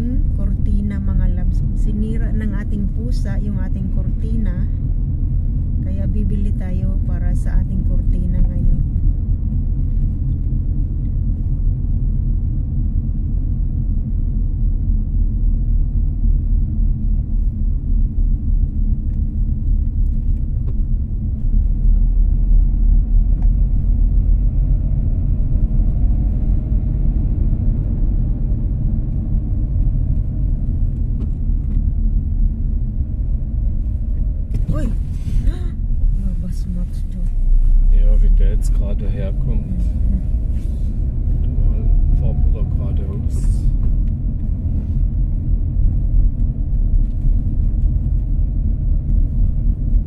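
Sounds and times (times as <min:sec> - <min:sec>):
car engine rumble: 0:00.0 - 0:50.0
road noise inside car: 0:00.0 - 0:50.0.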